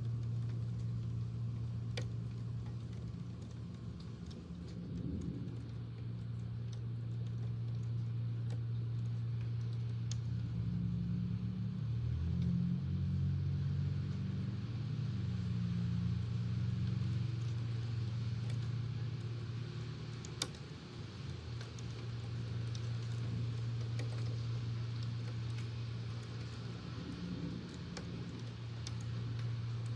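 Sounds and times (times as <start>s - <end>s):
rain ticking: 0.0s - 29.9s.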